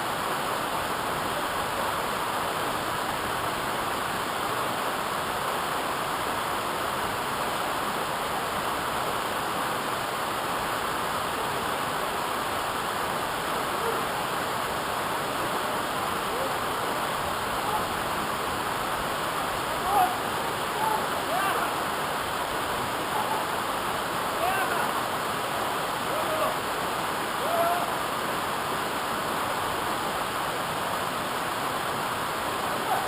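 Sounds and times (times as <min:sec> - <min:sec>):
waterfall roaring: 0:00.0 - 0:33.0.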